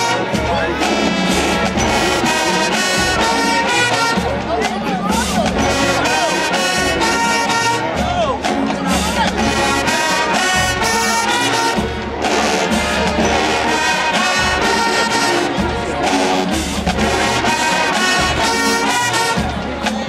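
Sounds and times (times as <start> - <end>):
brass marching band: 0.0 - 20.0
marching drums: 0.0 - 20.0.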